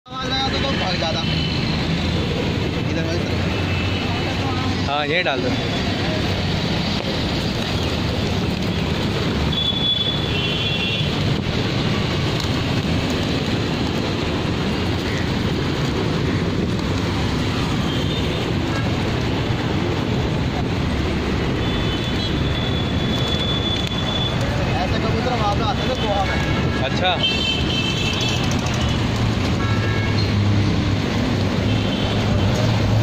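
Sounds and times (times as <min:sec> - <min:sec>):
traffic rumble: 0:00.1 - 0:33.0.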